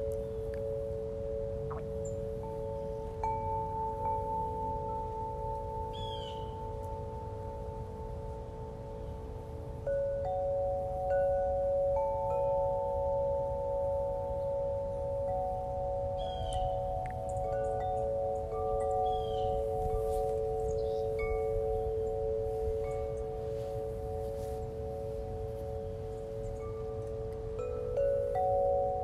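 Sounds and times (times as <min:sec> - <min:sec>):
ambient chime music: 0:00.0 - 0:29.0.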